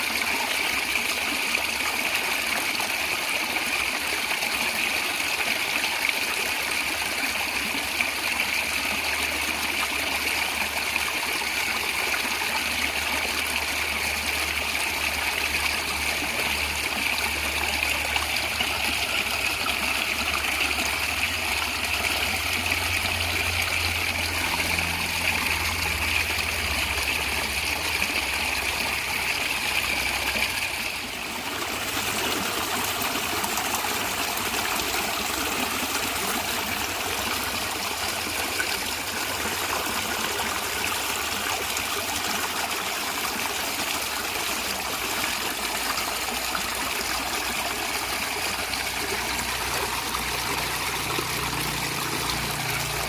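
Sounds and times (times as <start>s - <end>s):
stream water gurgling: 0.0s - 53.0s.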